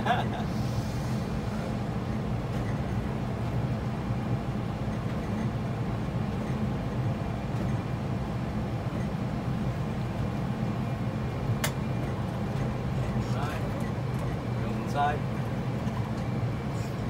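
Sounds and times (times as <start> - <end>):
low engine and airflow rumble: 0.0 - 17.0.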